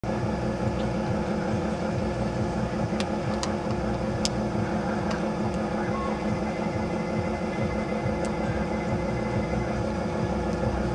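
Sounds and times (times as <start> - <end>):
low machine hum: 0.0 - 10.9.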